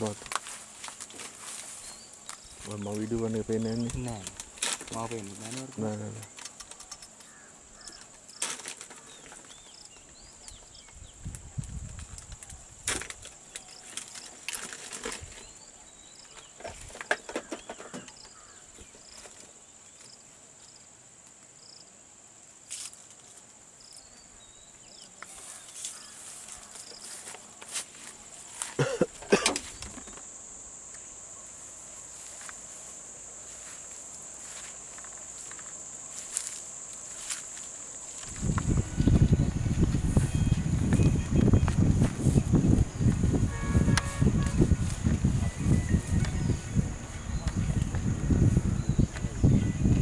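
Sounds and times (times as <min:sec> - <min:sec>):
insect drone with chirps: 0:00.0 - 0:50.0.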